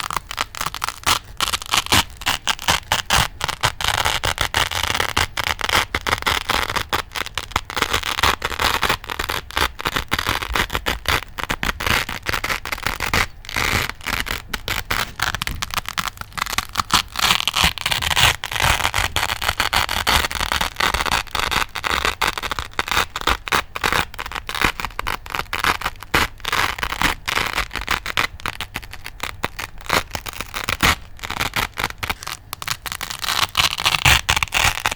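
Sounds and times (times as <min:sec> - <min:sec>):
velcro strips ripping: 0:00.0 - 0:34.9.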